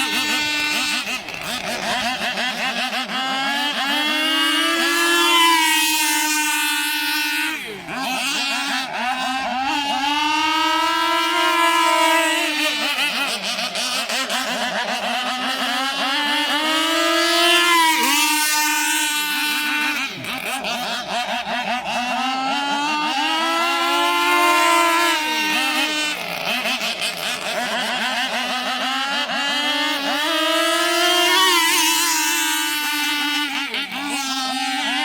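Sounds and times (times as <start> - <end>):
model boat engine revving: 0.0 - 35.0.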